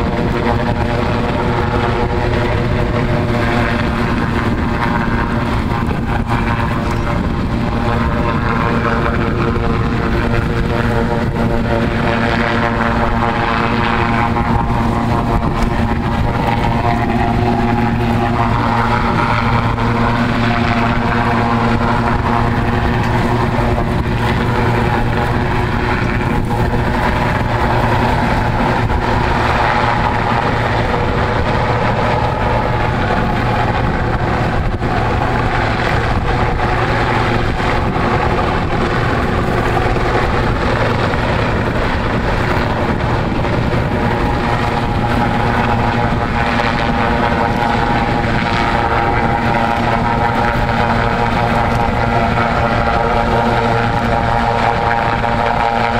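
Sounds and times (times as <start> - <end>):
helicopter hovering: 0.0 - 55.9.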